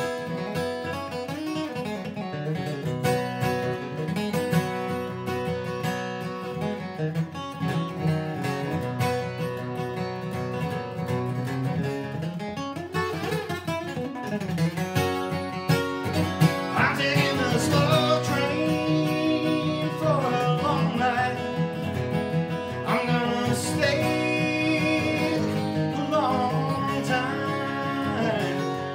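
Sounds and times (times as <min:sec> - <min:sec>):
acoustic guitar bluegrass picking: 0:00.0 - 0:28.9.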